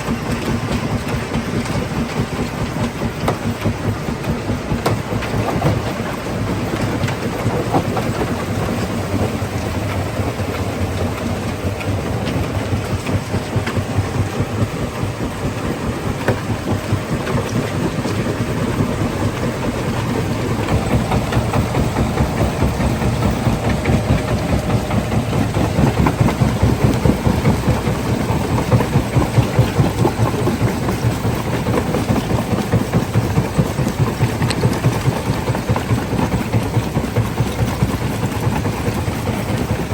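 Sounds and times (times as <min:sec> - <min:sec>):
stone crusher machinery rumbling: 0:00.0 - 0:39.9.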